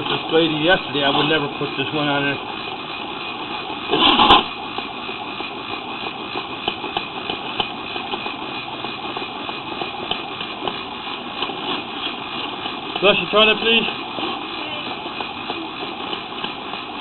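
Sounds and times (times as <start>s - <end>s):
machine running steadily: 0.0s - 17.0s.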